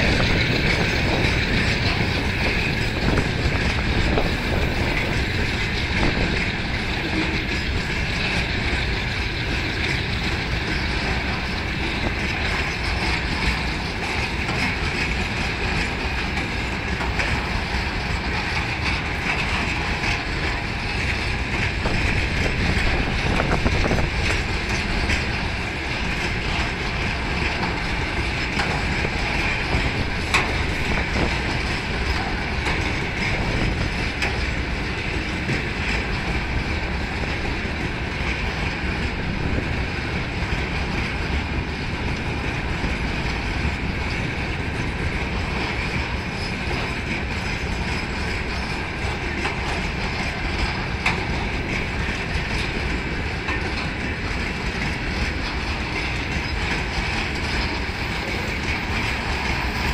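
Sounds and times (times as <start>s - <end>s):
clicks at rail joints: 0.0s - 59.9s
freight train wheels rumbling: 0.0s - 59.9s.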